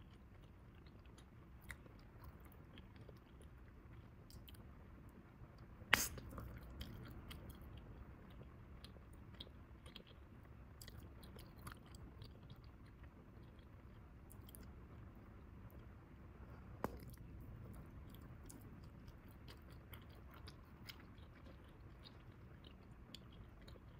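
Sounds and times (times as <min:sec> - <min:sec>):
gum chewing with wet clicks: 0:00.0 - 0:04.8, 0:05.6 - 0:16.0, 0:16.6 - 0:23.9.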